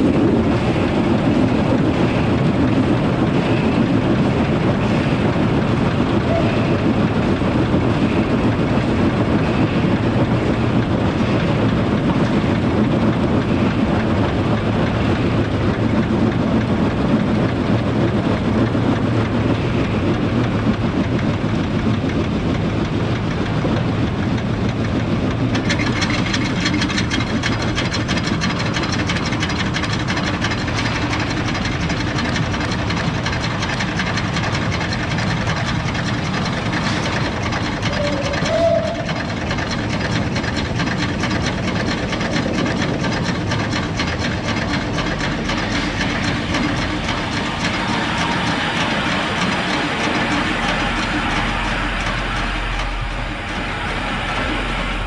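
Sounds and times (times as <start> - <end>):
steam locomotive working: 0.0 - 55.0
train wheels rumbling on track: 0.0 - 55.0.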